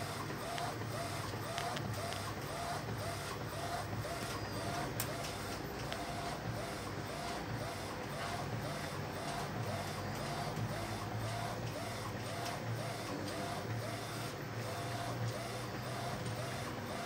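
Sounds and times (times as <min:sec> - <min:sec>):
paper feeding through printer: 0:00.0 - 0:17.0.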